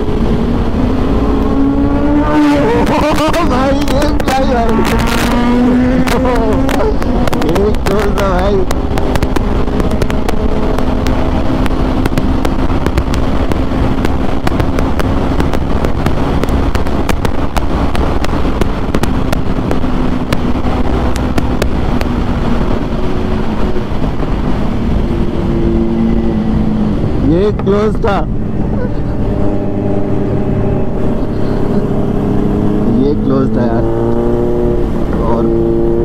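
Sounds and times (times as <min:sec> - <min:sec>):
motorcycle engine cruising: 0:00.0 - 0:36.0
wind rushing over microphone: 0:00.0 - 0:36.0.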